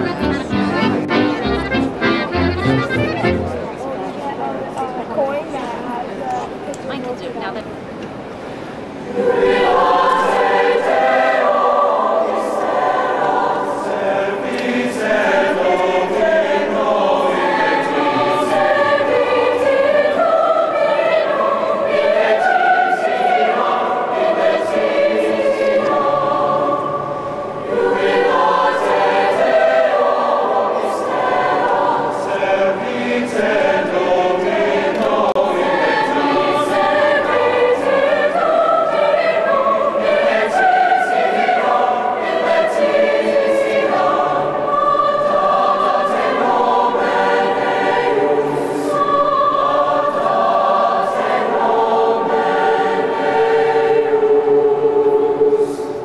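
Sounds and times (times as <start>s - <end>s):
mixed choir singing: 0.0s - 4.4s, 8.2s - 56.0s.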